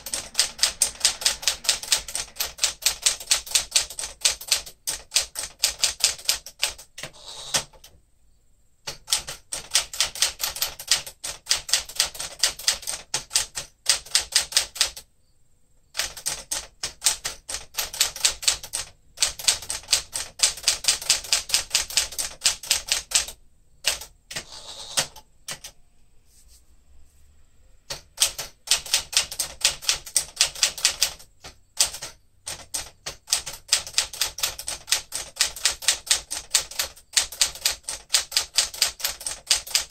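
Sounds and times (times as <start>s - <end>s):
manual typewriter keystrokes: 0.0s - 8.0s, 8.9s - 15.1s, 15.9s - 25.8s, 27.9s - 39.9s.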